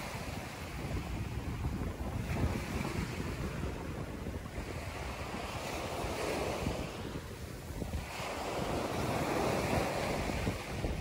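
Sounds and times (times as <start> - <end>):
sea waves washing ashore: 0.0 - 11.0
wind buffeting microphone: 0.0 - 11.0.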